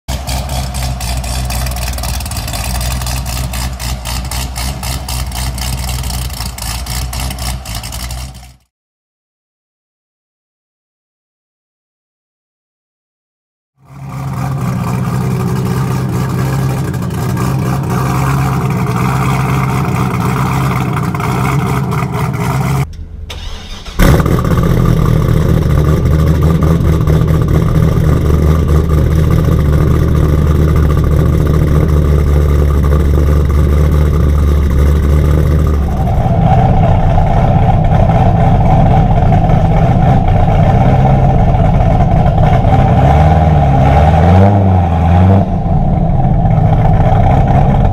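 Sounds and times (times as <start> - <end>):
car engine idling: 0.1 - 8.7, 13.8 - 44.0, 45.4 - 47.9.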